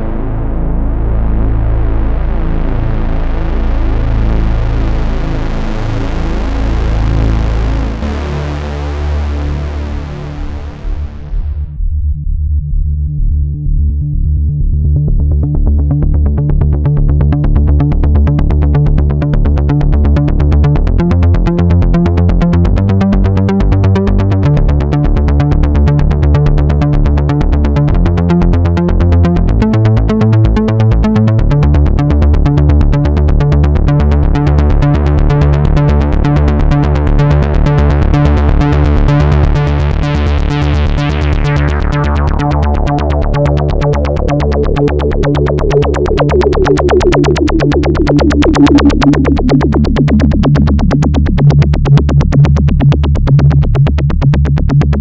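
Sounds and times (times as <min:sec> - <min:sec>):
synthesizer repeating bass pattern: 0:00.0 - 0:11.8, 0:12.5 - 0:55.0.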